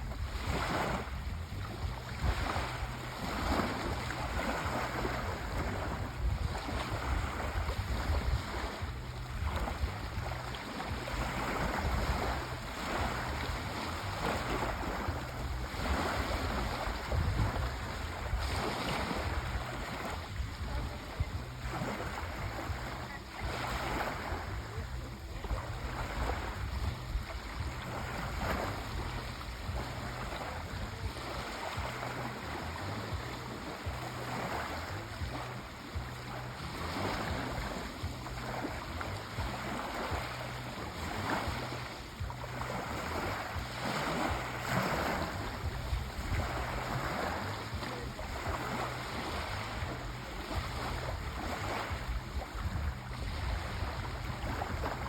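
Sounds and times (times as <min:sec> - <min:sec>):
sea waves breaking on shore: 0:00.0 - 0:55.0
wind on microphone: 0:00.0 - 0:55.0.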